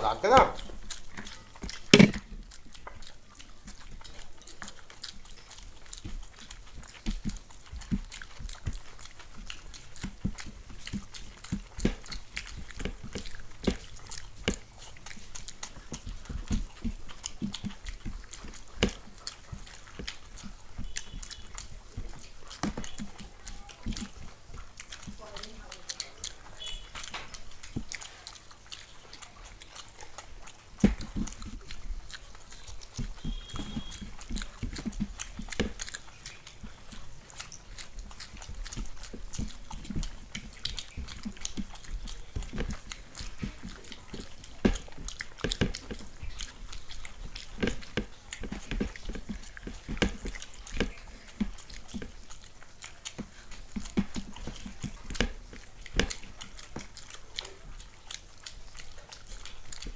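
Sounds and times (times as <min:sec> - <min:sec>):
chewing and mouth smacking: 0:00.0 - 0:59.9.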